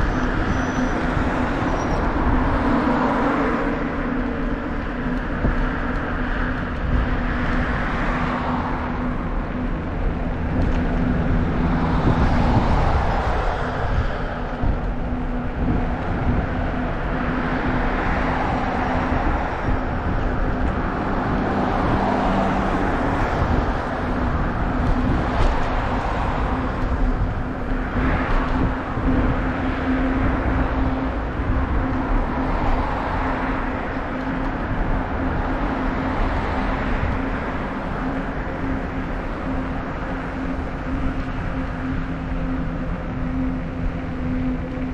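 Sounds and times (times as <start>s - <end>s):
bicycle road and wind rumble: 0.0s - 44.9s
vehicles passing: 0.0s - 44.9s.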